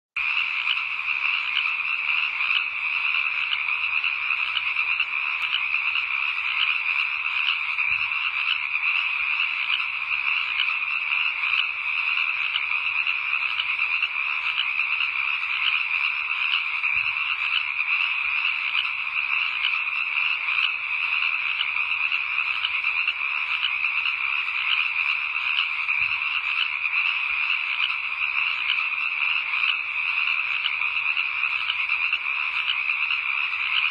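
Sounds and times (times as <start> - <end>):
frogs calling chorus: 0.2 - 33.9.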